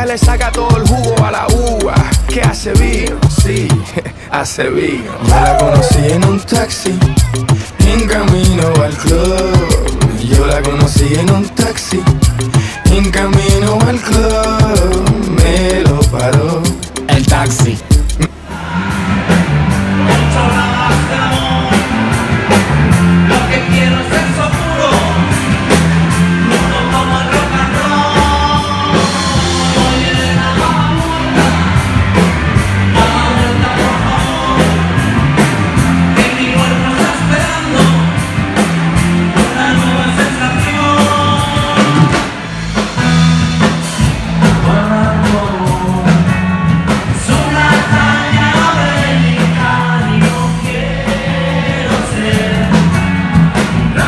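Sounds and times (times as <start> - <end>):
live rock band playing: 0.0 - 3.9, 5.3 - 54.0
man singing: 0.0 - 18.9, 20.0 - 22.2, 23.2 - 31.9, 32.8 - 35.4, 36.1 - 38.3, 39.3 - 42.4, 44.4 - 46.4, 47.0 - 53.0.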